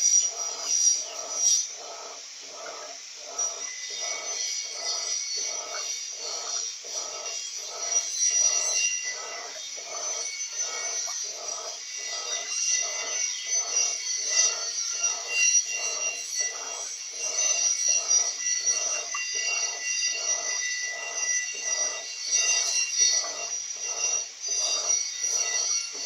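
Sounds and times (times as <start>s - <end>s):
high-pitched whine: 0.0s - 26.0s
washing machine churning: 0.0s - 26.0s.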